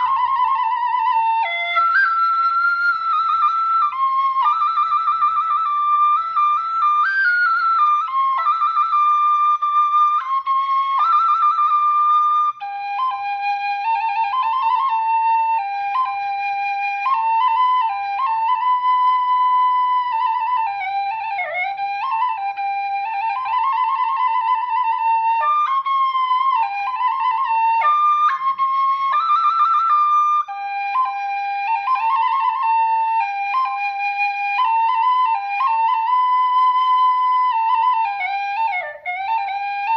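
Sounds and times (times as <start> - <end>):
bamboo flute melody: 0.0 - 39.9.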